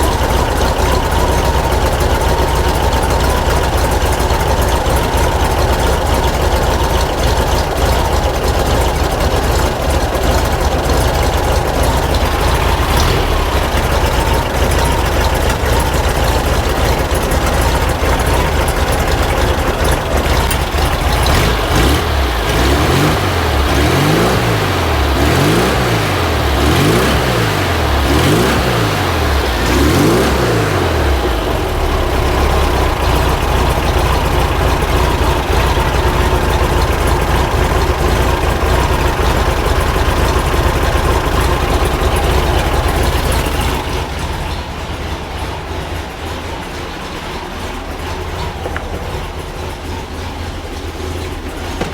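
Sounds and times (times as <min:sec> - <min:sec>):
engine running and revving: 0:00.0 - 0:51.9.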